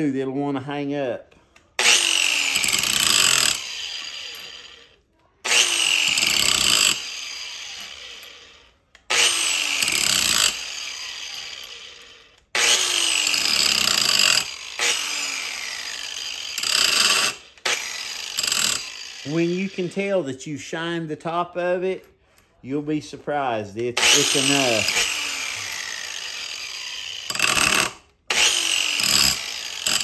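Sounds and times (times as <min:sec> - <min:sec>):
chain grinder whirring and grinding: 0:01.6 - 0:20.4, 0:23.7 - 0:30.0.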